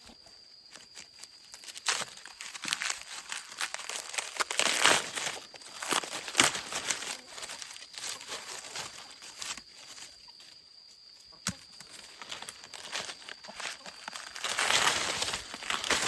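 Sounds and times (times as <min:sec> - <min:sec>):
corn husks crackling and tearing: 0:00.6 - 0:10.4, 0:11.3 - 0:16.0.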